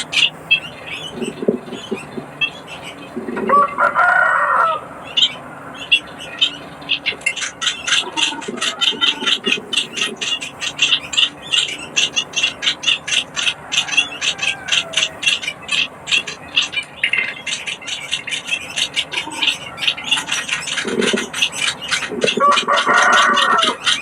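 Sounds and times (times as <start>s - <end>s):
bird chicks chirping rapidly: 0.0s - 24.0s.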